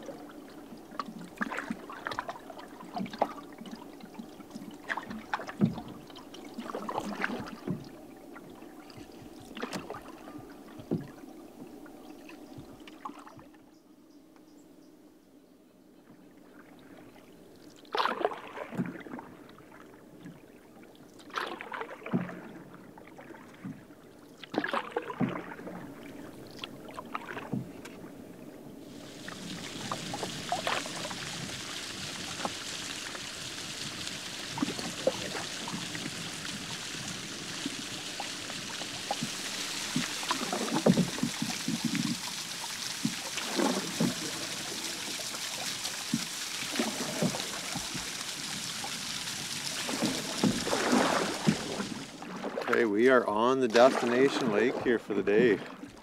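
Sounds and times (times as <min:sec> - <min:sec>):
canoe paddle strokes splashing: 0:00.0 - 0:13.5, 0:16.5 - 0:56.0
rushing water: 0:00.0 - 0:13.5, 0:16.5 - 0:56.0.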